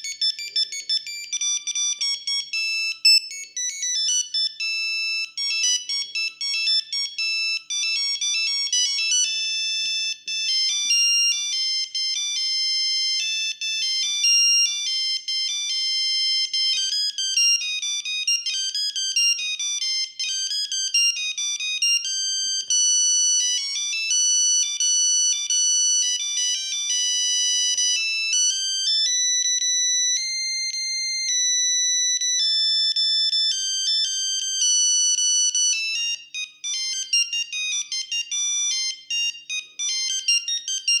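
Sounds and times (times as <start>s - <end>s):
mobile phone ringtone beeps: 0.0s - 41.0s.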